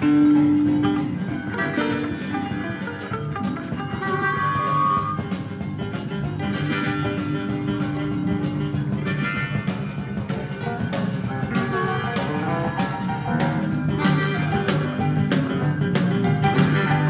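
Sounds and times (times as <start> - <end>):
blues-rock band playing: 0.0 - 17.0
sustained guitar notes: 0.0 - 17.0.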